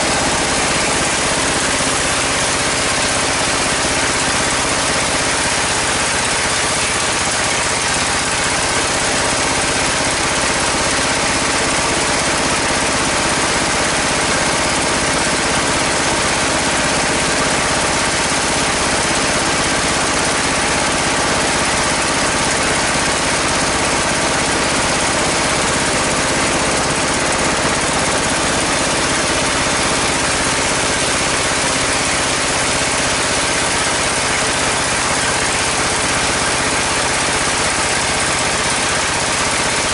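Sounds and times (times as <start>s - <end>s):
bandsaw running: 0.0s - 39.9s.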